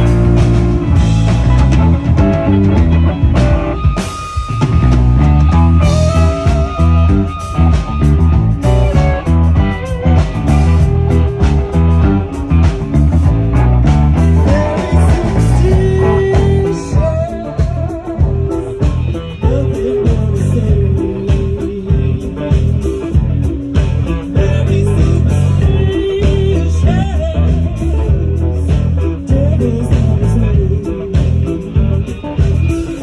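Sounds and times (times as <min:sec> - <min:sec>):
blues-rock band playing: 0:00.0 - 0:33.0
lead guitar bending notes: 0:00.0 - 0:33.0.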